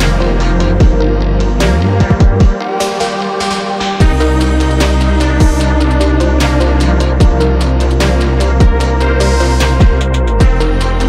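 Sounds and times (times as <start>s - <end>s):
pitch-dropping kick drums: 0.0s - 3.3s, 4.0s - 11.0s
electronic music with deep bass: 0.0s - 11.0s.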